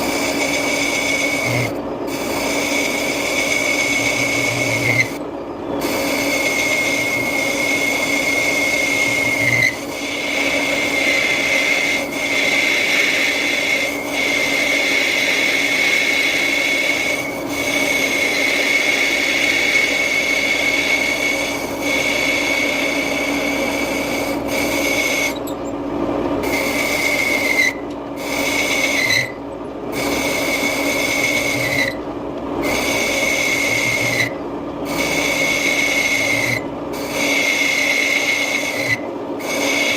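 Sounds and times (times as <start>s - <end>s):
lathe tool scraping metal: 0.0s - 5.2s, 5.8s - 25.7s, 26.4s - 32.0s, 32.6s - 39.9s.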